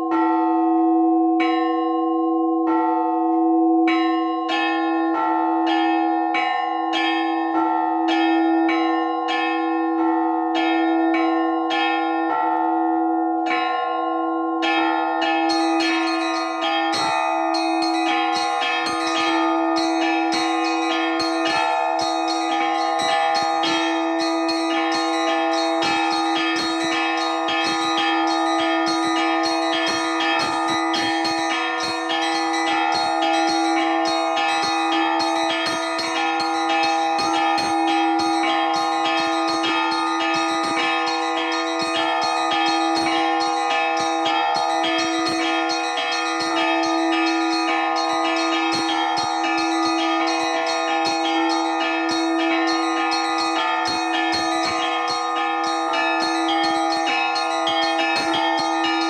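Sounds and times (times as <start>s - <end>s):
larger church bells ringing: 0.0s - 59.0s
small high church bells: 0.0s - 59.0s.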